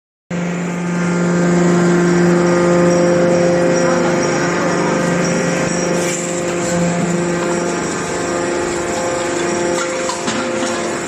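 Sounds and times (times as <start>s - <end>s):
hydraulic press machine hum: 0.3s - 11.0s.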